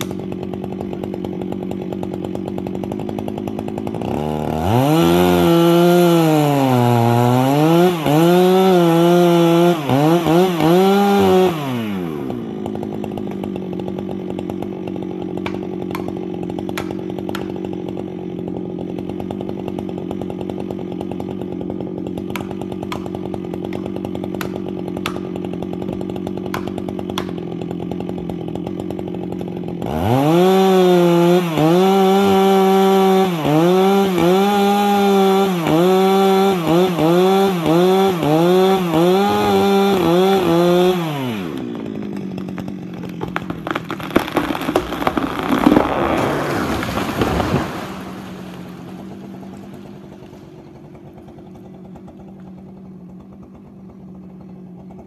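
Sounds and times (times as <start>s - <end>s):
chainsaw cutting wood: 0.0s - 55.0s
chainsaw idling: 0.0s - 55.0s.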